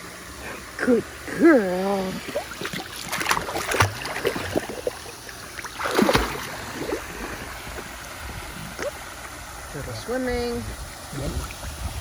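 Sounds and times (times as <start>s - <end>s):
pool waterfall rushing: 0.0s - 12.0s
water splashing from dog swimming: 2.0s - 12.0s.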